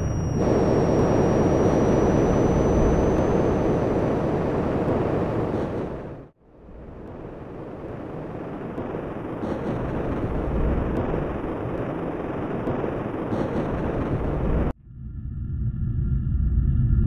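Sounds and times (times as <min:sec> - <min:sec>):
spaceship engine rumble: 0:00.0 - 0:12.0, 0:13.3 - 0:17.0.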